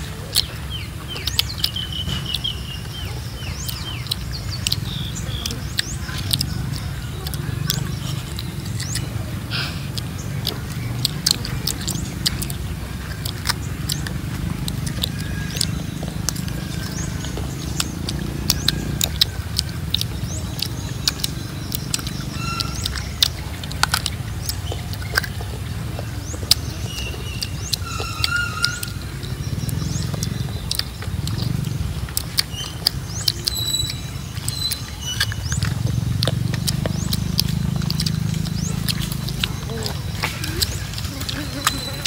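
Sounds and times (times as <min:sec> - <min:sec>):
crunchy fruit chewing: 0:00.0 - 0:42.0.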